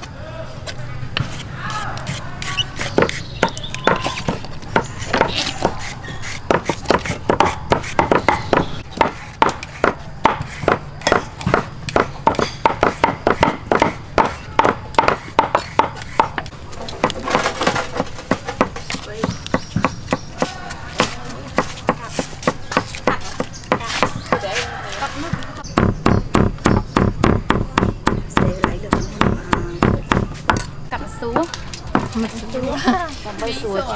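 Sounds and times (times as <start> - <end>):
knives chopping on wooden blocks: 1.2 - 24.6, 25.6 - 30.7.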